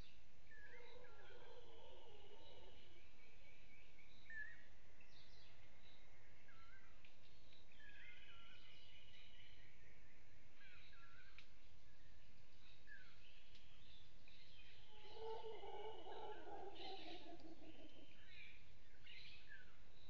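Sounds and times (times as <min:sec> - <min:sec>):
forest birds calling: 0:00.0 - 0:20.0.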